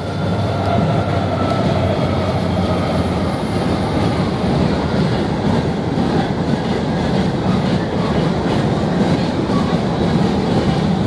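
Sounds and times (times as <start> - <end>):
locomotive engine: 0.0 - 11.0
train wheels rumbling on rails: 0.0 - 11.0.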